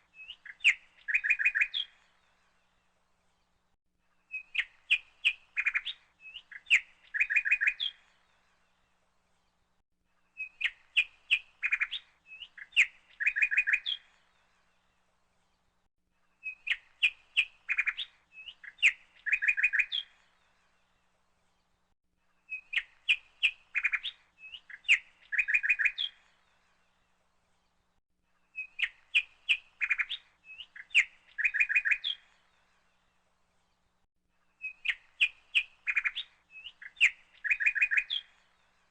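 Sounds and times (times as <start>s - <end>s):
bird chirping: 0.0s - 3.6s, 4.2s - 9.6s, 10.2s - 38.9s.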